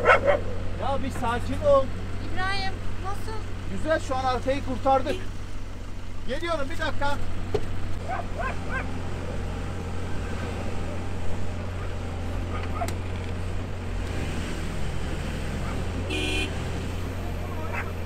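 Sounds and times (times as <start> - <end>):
heavy diesel engines under load: 0.0 - 18.0.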